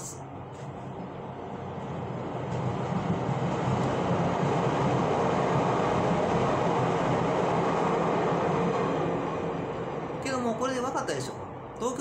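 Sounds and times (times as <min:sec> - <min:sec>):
train passing by: 0:00.0 - 0:12.0.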